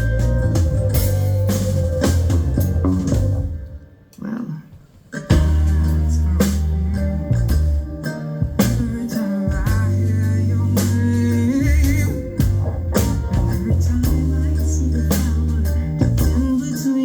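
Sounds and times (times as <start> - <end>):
drum kit hits: 0.0 - 3.9, 5.3 - 16.8
bass notes: 0.0 - 4.1, 5.2 - 16.8
guitar: 0.0 - 17.0.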